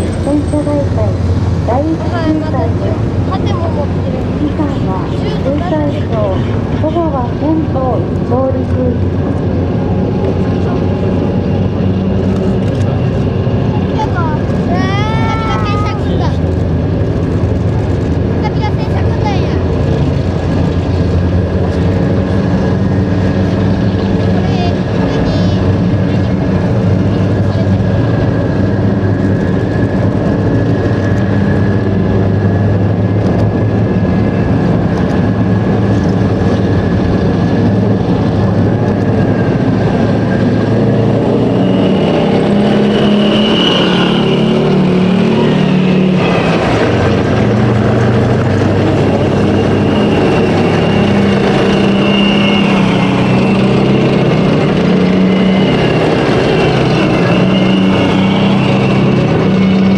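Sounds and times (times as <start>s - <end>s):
tank diesel engines running: 0.0s - 59.9s.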